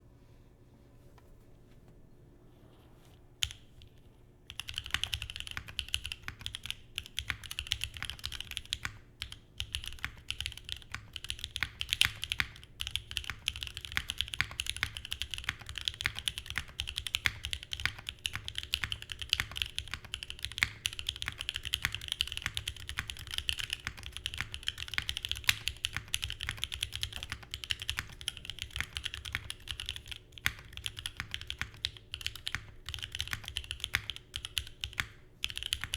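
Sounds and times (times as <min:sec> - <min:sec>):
typing on mechanical keyboard: 0:03.4 - 0:35.9.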